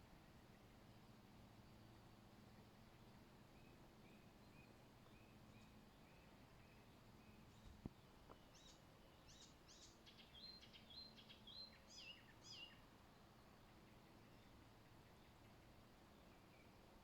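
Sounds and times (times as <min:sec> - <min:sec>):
faint songbird singing: 0:00.0 - 0:17.0.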